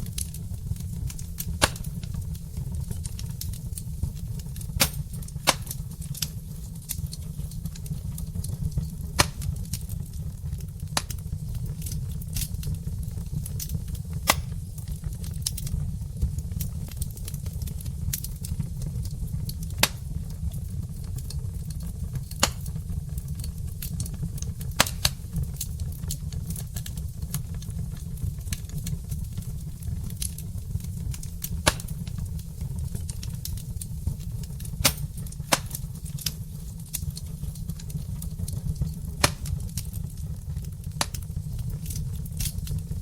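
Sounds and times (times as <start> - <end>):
low rumble of fire: 0.0 - 43.0
wood fire crackling and popping: 0.0 - 43.0.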